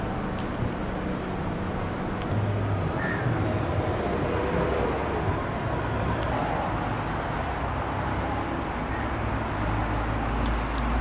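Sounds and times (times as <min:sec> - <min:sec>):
street traffic noise: 0:00.0 - 0:11.0
vehicle engine rumble: 0:00.0 - 0:11.0.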